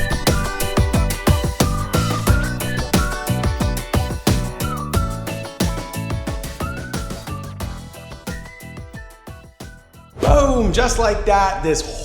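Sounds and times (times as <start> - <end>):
music with whistle-like melody: 0.0 - 10.2.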